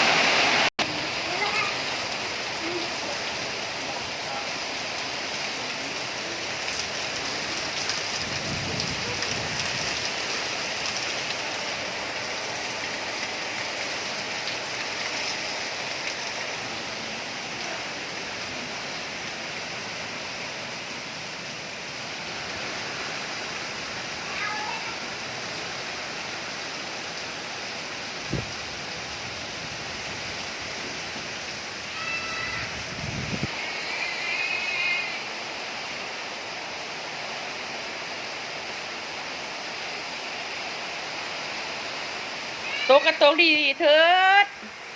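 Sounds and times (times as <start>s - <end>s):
heavy rain in strong wind: 0.0s - 44.9s.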